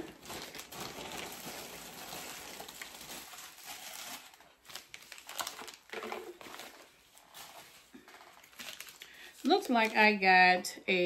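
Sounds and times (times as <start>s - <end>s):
packaging crinkling: 0.0s - 10.2s.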